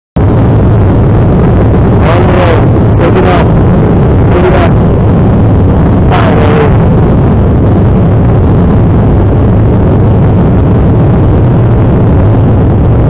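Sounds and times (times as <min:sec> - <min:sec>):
jet engines rumbling in cabin: 0:00.2 - 0:13.0.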